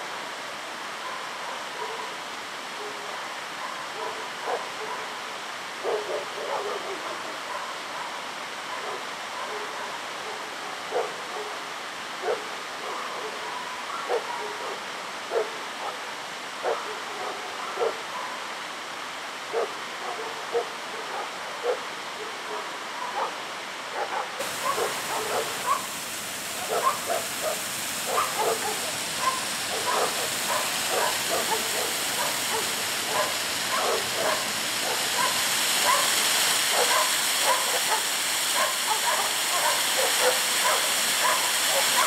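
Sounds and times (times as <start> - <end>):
falling water rushing: 0.0 - 18.0, 18.6 - 42.0.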